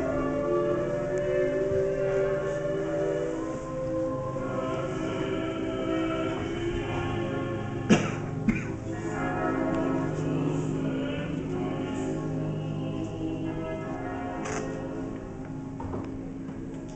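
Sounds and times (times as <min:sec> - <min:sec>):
church bells ringing: 0:00.0 - 0:16.7.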